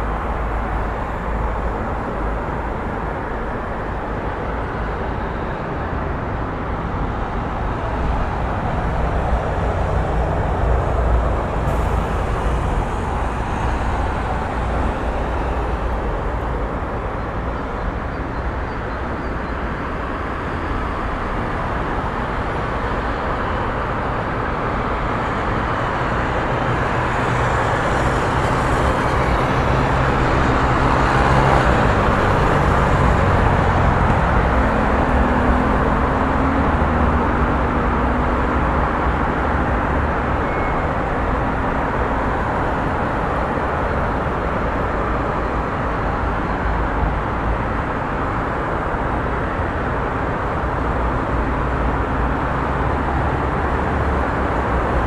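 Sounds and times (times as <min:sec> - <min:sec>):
passing cars rumbling: 0:00.0 - 0:55.0
vehicle engine humming: 0:00.0 - 0:55.0.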